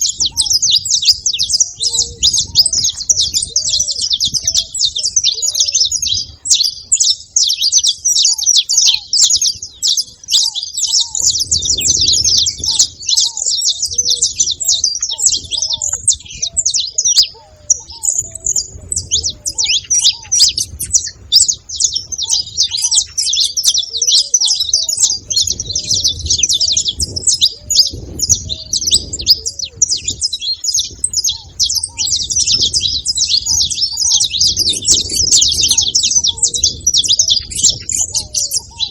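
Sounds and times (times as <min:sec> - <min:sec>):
finch singing high chirps: 0:00.0 - 0:38.9.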